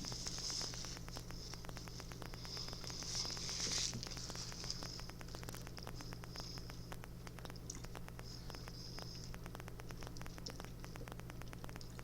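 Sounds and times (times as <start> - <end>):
low hum: 0.0 - 12.0
person chewing food: 0.0 - 12.0.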